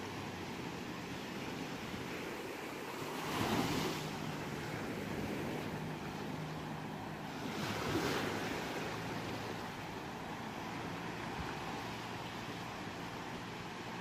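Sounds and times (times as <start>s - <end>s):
ocean surf washing in: 0.0s - 14.0s
wave breaking: 2.0s - 13.7s.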